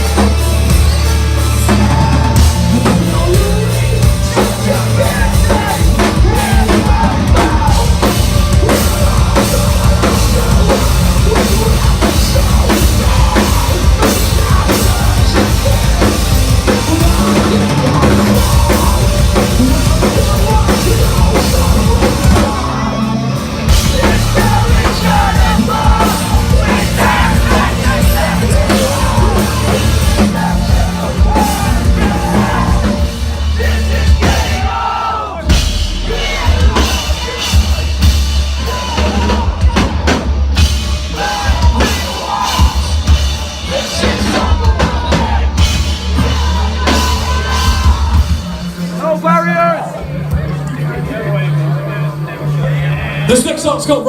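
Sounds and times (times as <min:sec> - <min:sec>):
pounding drums: 0:00.0 - 0:50.6
loud distorted rock band: 0:00.0 - 0:54.0
shouted vocals: 0:01.6 - 0:50.1.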